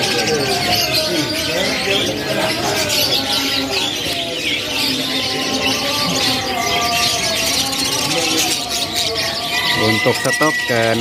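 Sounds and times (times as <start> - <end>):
canaries chirping and twittering: 0.0 - 11.0.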